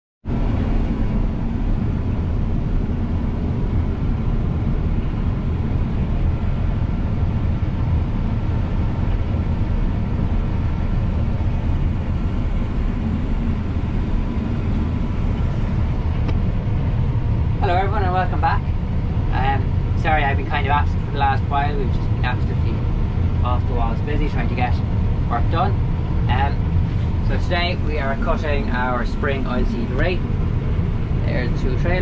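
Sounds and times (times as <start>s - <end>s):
combine harvester drone: 0.2s - 32.0s
faint steady whine: 0.3s - 32.0s.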